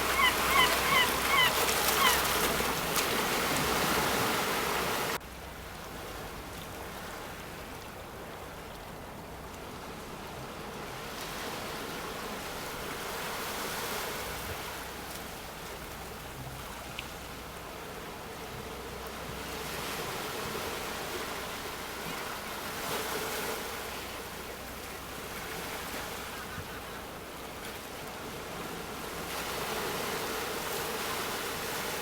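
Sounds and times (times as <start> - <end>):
sea waves breaking on shore: 0.0 - 32.0.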